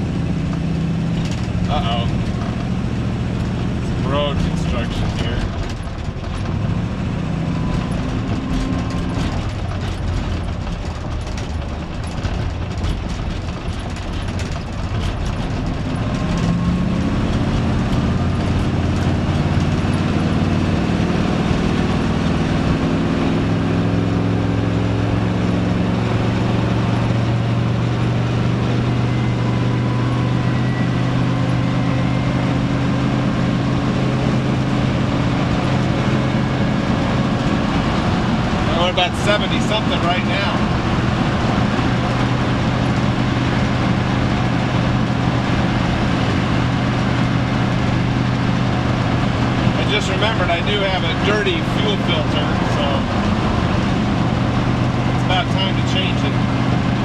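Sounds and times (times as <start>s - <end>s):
car engine drone: 0.0s - 57.0s
road noise: 0.0s - 57.0s.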